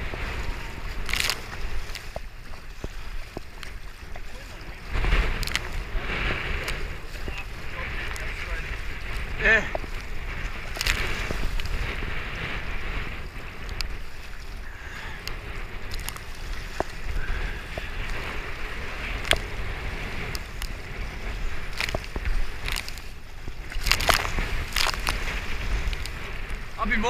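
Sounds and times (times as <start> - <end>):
paddle splashes: 0.0 - 27.0
water sloshing against kayak hull: 0.0 - 27.0
wind rumble on microphone: 0.0 - 27.0.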